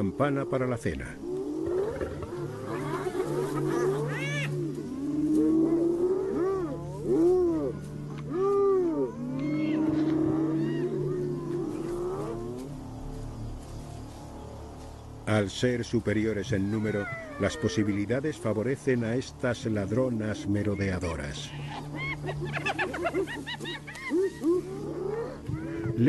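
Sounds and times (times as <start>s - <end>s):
hyenas calling: 0.2s - 12.7s, 16.4s - 26.0s.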